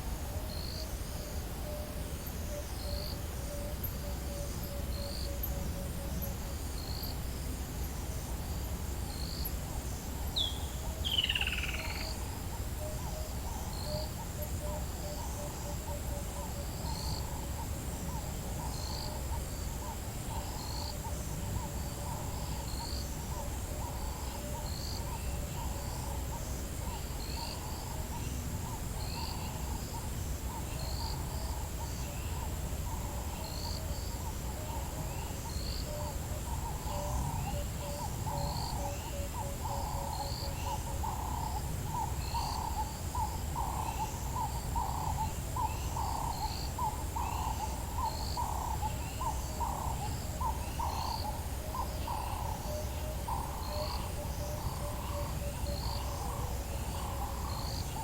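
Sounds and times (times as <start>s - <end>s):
high insect whine: 0.0s - 58.0s.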